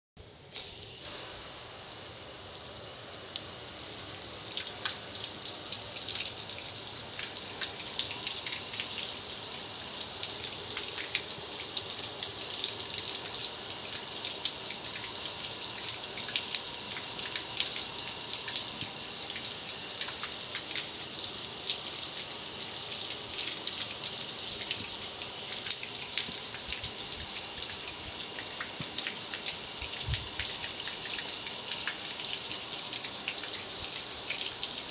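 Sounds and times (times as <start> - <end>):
hose water spraying on metal: 0.5 - 34.9.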